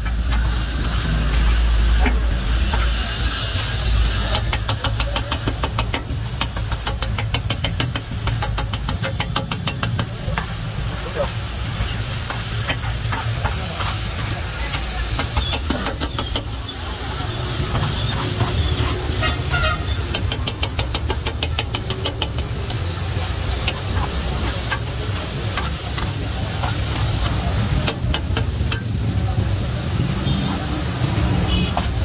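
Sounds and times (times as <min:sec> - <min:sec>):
meat sizzling: 0:00.0 - 0:32.0.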